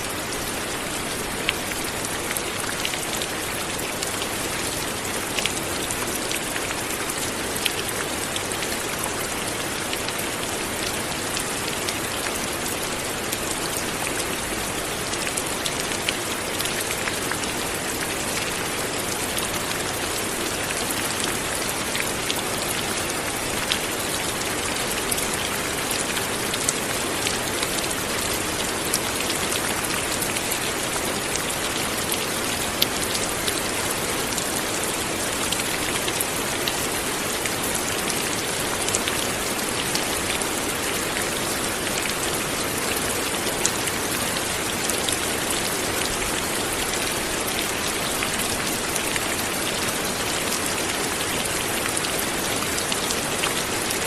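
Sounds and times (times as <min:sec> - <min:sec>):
raindrops ticking on surface: 0:00.1 - 0:54.0.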